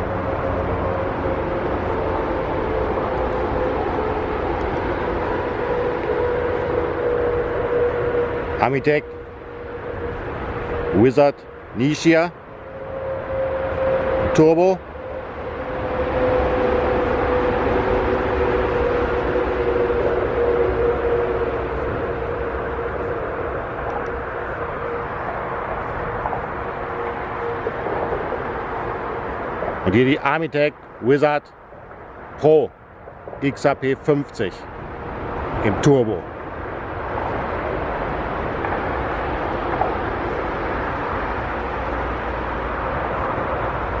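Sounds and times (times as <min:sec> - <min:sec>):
distant vehicles: 0:00.0 - 0:44.0
outdoor background rush: 0:00.0 - 0:44.0.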